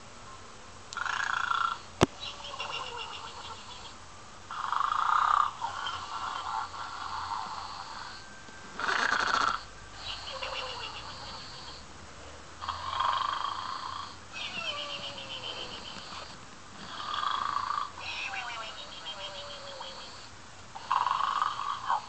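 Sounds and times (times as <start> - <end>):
toy pig snoring: 1.0 - 3.9, 4.5 - 22.0
soft breathy sounds: 1.0 - 22.0.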